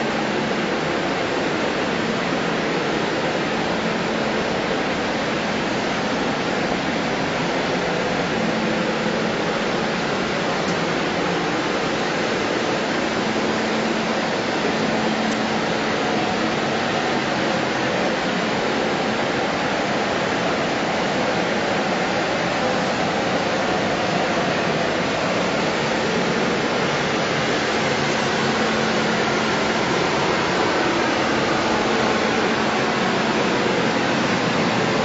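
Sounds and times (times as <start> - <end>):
factory machinery hiss: 0.0 - 35.0.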